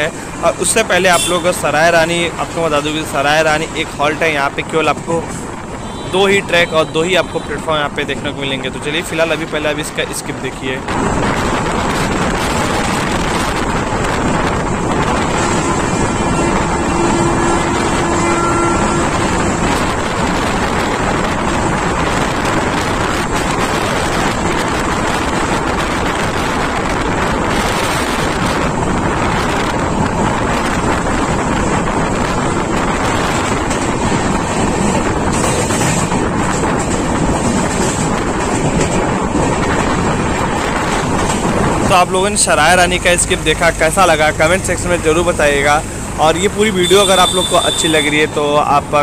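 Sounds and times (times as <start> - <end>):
moving train noise: 0.0 - 49.0
wind rushing over microphone: 0.0 - 49.0.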